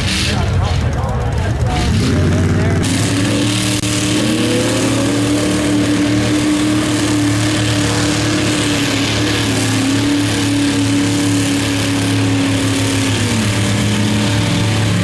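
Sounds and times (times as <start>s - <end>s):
truck engine revving high: 0.0s - 15.0s.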